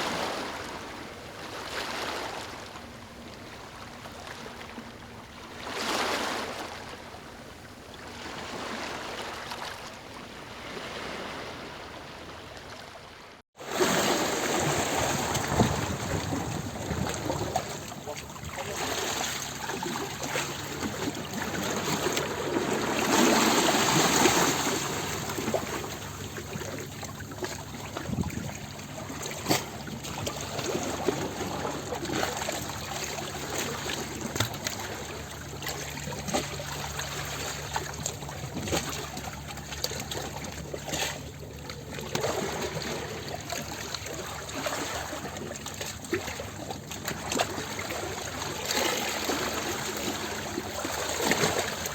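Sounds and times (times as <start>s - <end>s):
ocean waves lapping shore: 0.0s - 51.9s.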